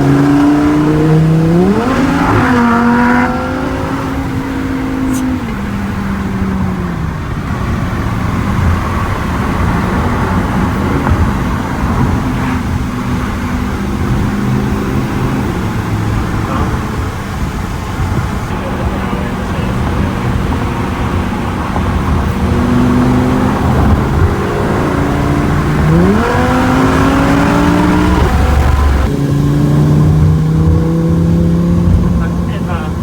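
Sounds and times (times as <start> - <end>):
road noise: 0.0 - 33.0
sports car engine accelerating: 0.0 - 33.0.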